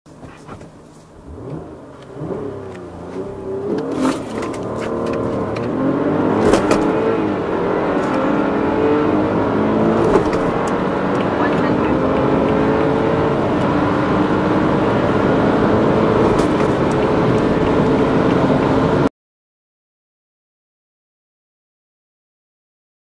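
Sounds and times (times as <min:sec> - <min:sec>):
car engine accelerating hard: 0:00.1 - 0:19.1.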